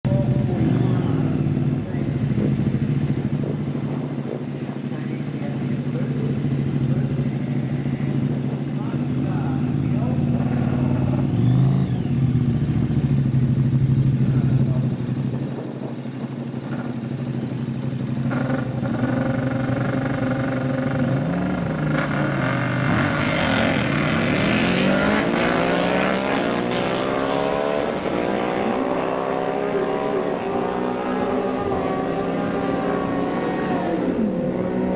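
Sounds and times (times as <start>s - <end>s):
motorcycles idling and accelerating: 0.0s - 34.9s.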